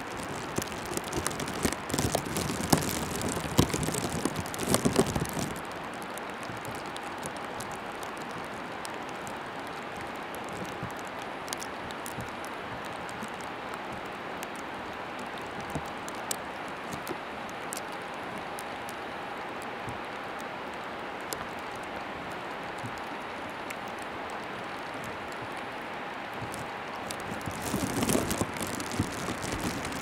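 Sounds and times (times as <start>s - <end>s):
small clicks and ticks: 0.0s - 25.8s, 26.4s - 30.0s.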